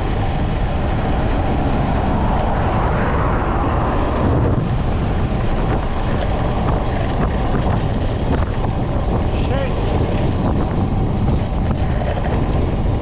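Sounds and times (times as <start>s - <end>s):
tyre noise on tarmac: 0.0s - 13.0s
wind buffeting microphone: 0.0s - 13.0s.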